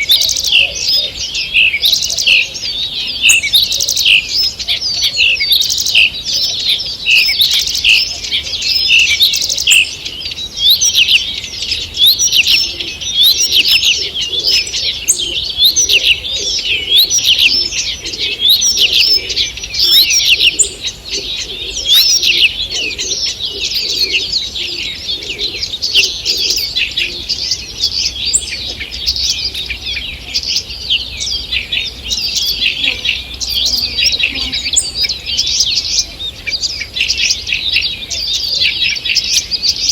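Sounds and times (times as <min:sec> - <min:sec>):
faint low bird calls: 0:00.0 - 0:39.9
songbirds singing and chirping: 0:00.0 - 0:39.9.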